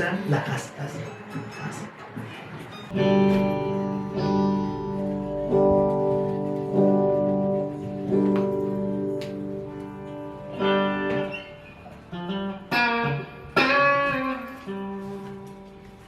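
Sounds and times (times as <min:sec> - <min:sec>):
guitar strumming chords: 0:02.9 - 0:16.0.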